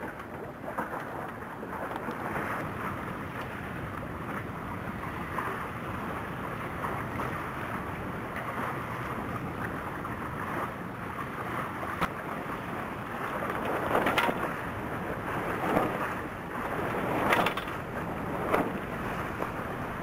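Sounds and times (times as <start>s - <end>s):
water rushing around yacht: 0.0s - 20.0s.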